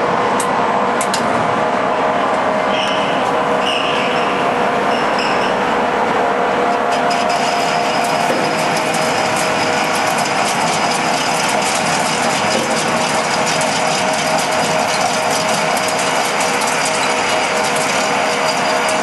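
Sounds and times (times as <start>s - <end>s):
pipe-threading lathe running: 0.0s - 19.0s.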